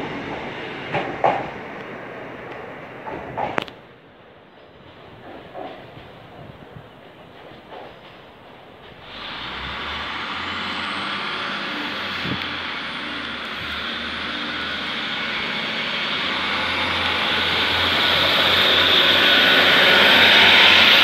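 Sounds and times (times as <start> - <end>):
diesel train engines whining: 0.0 - 21.0.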